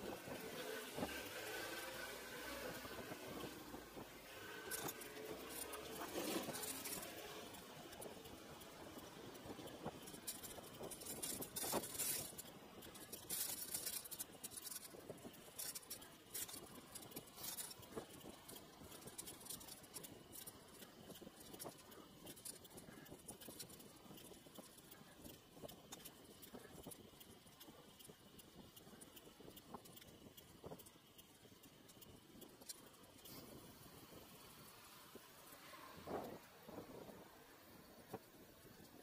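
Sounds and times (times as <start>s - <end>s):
bicycle clicks and rattles: 0.0s - 39.0s
bicycle riding hiss: 0.0s - 39.0s.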